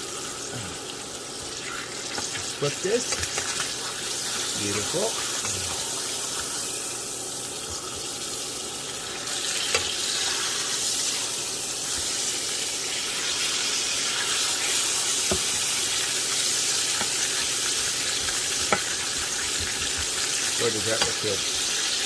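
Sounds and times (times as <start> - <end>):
steaks sizzling in a pan: 0.0 - 22.0.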